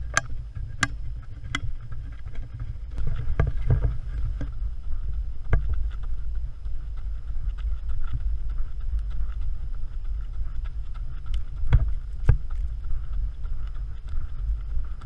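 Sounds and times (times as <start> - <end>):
running footsteps on rocky trail: 0.0 - 15.0
wind on microphone: 0.0 - 15.0.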